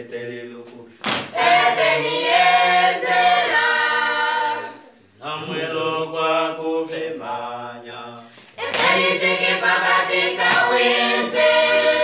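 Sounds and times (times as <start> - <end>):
unaccompanied choir singing: 0.0 - 12.0.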